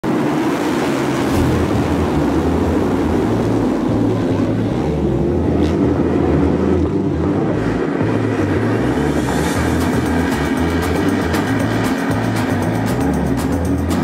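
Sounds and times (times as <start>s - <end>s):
motocross bikes accelerating: 0.1s - 14.0s.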